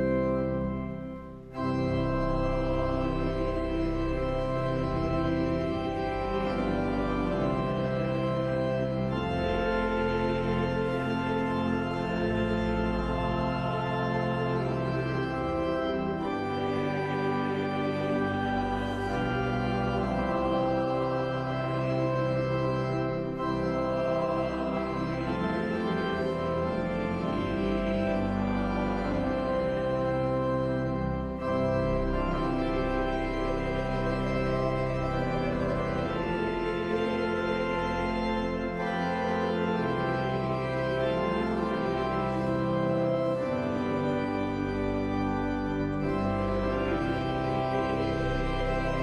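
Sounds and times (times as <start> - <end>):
church organ playing: 0.0 - 49.0
congregation singing: 3.0 - 49.0.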